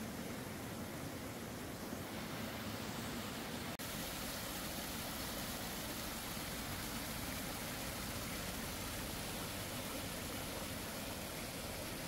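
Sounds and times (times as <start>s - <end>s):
stream water over rocks: 0.0s - 12.0s.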